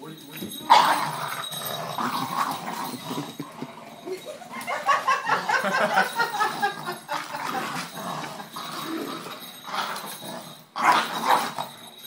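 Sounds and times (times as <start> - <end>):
dogs play-fighting: 0.2 - 12.0
dogs growling: 0.4 - 12.0.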